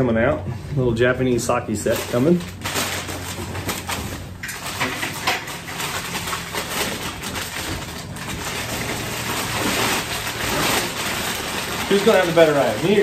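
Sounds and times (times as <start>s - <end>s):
packing paper rustling: 1.3s - 13.0s.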